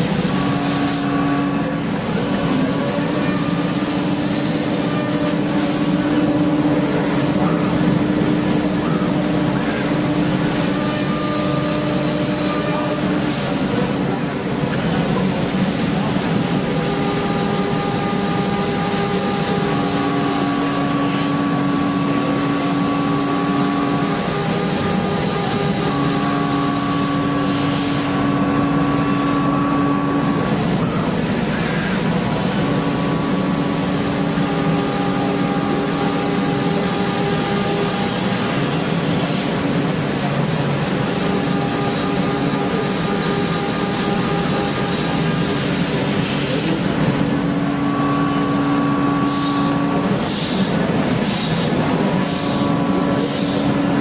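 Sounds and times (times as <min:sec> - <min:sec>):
machining hiss: 0:00.0 - 0:54.0.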